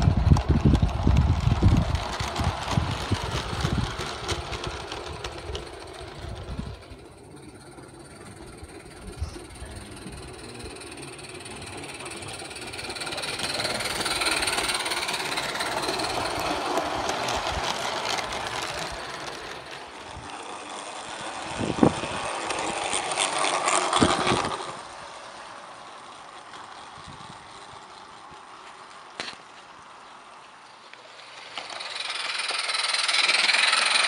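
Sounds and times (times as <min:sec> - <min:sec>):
model train rolling on track: 0:00.0 - 0:34.0.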